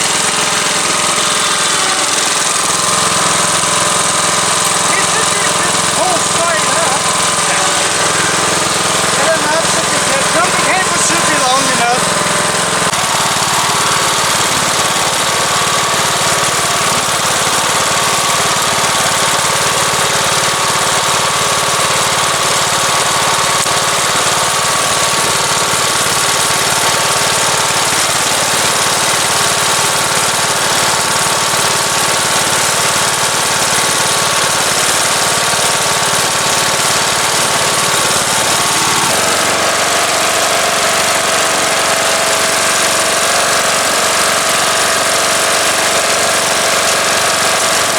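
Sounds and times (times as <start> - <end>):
lawn tractor engine running: 0.0 - 47.9.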